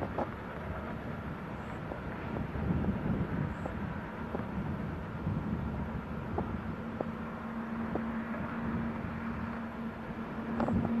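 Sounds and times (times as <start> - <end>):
distant diesel locomotive running: 0.0 - 11.0.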